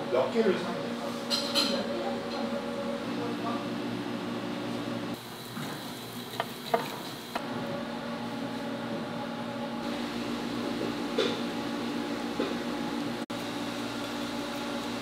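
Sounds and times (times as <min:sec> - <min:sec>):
steady machine hum: 0:00.0 - 0:05.3, 0:07.3 - 0:15.0.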